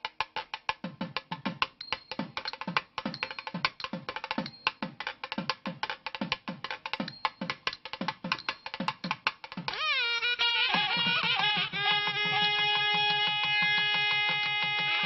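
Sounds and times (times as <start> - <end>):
fast hand-drum percussion music: 0.0 - 15.0.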